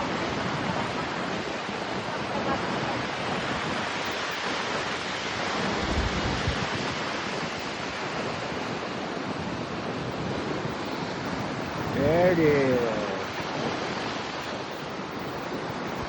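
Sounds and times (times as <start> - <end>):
ocean surf washing ashore: 0.0 - 16.0
wind buffeting microphone: 0.0 - 16.0.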